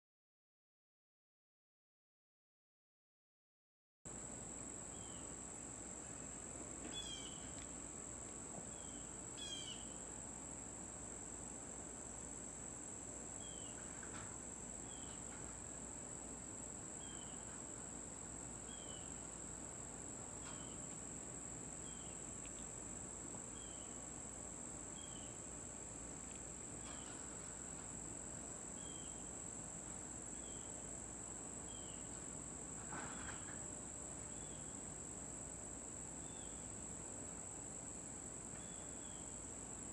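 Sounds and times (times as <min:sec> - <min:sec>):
high-pitched insect chorus: 0:04.2 - 0:39.9.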